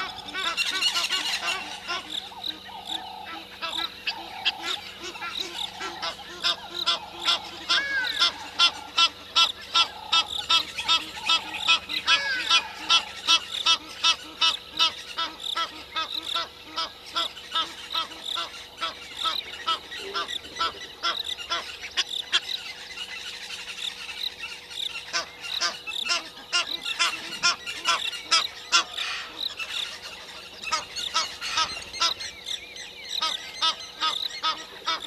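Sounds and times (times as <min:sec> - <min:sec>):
lower repeated bird call: 0:00.0 - 0:35.0.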